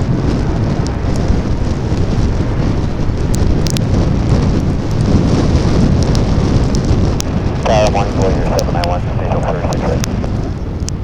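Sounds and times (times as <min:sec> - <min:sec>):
wind buffeting microphone: 0:00.0 - 0:11.0
sharp ticks of raindrops: 0:01.9 - 0:11.0.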